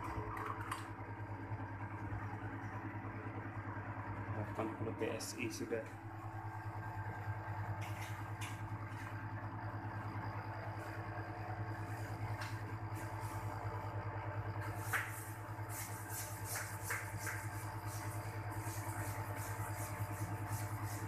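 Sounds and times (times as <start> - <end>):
air conditioner compressor humming: 0.0 - 21.0.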